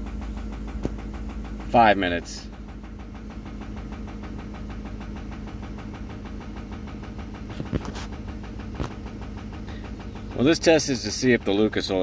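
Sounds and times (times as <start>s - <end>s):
engine idling with knock: 0.0s - 12.0s.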